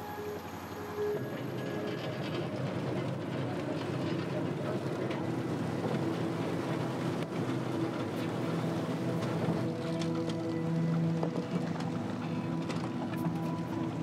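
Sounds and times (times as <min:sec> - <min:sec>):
boat engine running: 0:00.0 - 0:14.0
water splashing along hull: 0:00.0 - 0:14.0.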